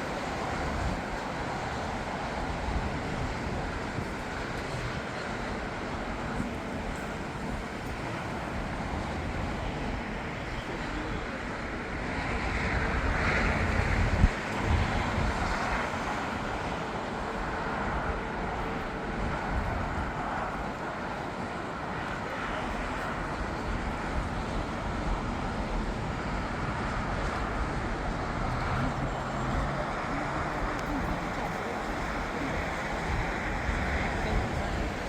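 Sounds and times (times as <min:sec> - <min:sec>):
jet aircraft rush: 0:00.0 - 0:35.0
wind buffeting microphone: 0:00.0 - 0:35.0.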